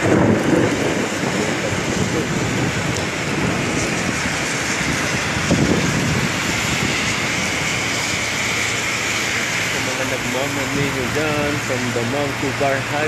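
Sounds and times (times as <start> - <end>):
cars swishing on wet road: 0.0 - 13.0
heavy rain: 0.0 - 13.0
low rumble: 0.0 - 13.0.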